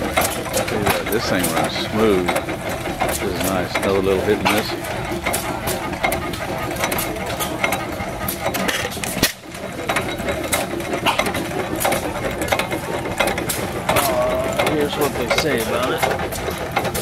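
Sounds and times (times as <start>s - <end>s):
engine clicking: 0.0s - 17.0s
stationary gas engine running: 0.0s - 17.0s.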